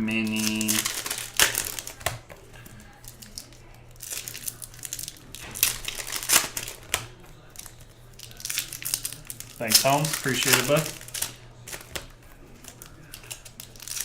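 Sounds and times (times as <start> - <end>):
wrappers crinkling: 0.1 - 14.0.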